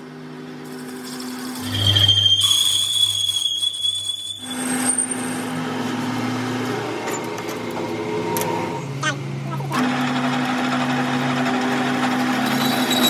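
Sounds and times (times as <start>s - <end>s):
lathe running hum: 0.0s - 2.4s, 4.4s - 13.0s
lathe cutting tool whine: 0.0s - 13.0s.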